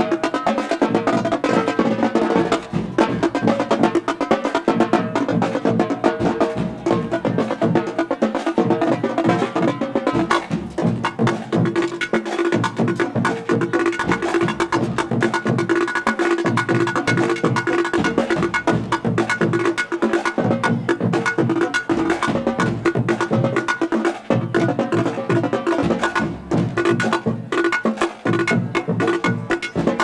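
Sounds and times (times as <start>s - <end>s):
snare drums playing fast cadence: 0.0s - 30.0s
bass drum beats: 4.7s - 30.0s.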